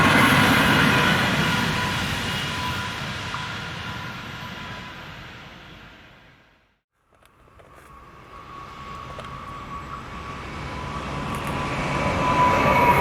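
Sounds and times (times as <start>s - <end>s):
electric train approaching: 0.0s - 6.6s, 7.3s - 13.0s.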